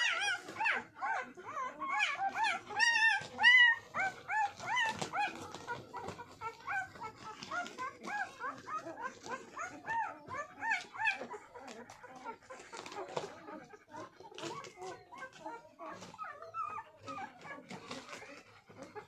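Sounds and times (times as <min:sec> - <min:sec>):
puppies squeaking and whimpering: 0:00.0 - 0:19.0.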